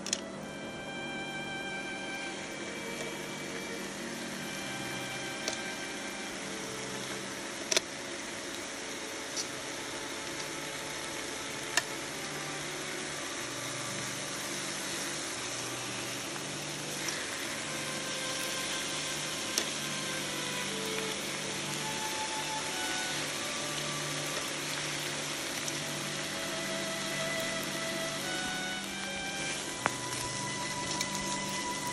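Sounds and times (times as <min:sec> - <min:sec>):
meat sizzling on grill pan: 0:02.3 - 0:31.9.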